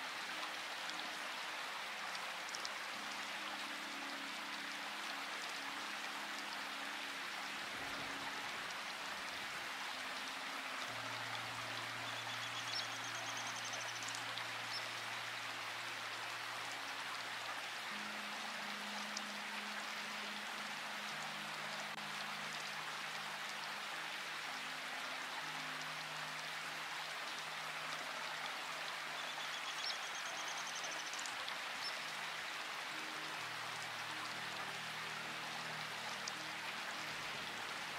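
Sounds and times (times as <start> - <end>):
slow soft music: 0.0 - 37.9
steady rain falling: 0.0 - 37.9.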